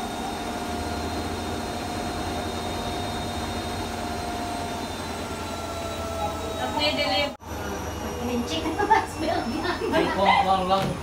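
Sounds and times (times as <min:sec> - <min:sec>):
machine whir: 0:00.0 - 0:11.0.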